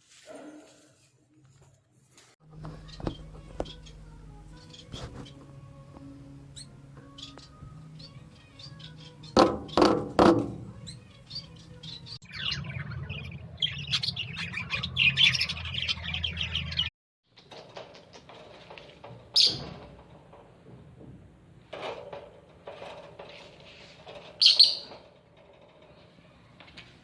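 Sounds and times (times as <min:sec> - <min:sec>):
birds chirping: 0:02.4 - 0:20.5, 0:21.8 - 0:27.0.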